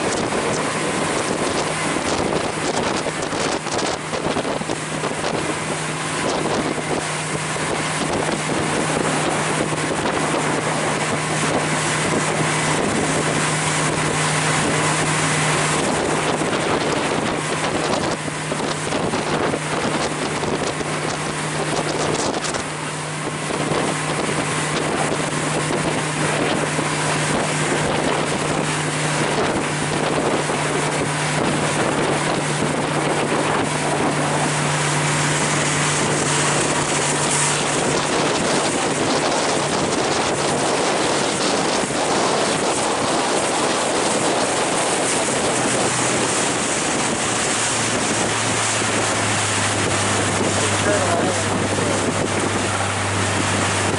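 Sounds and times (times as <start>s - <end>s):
motorboat engine drone: 0.0s - 53.9s
water noise: 0.0s - 53.9s
wind on microphone: 0.0s - 53.9s.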